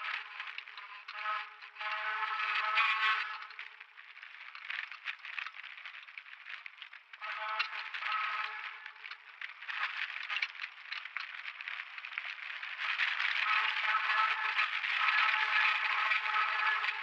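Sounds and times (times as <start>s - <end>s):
tyres crackling over gravel: 0.1s - 17.0s.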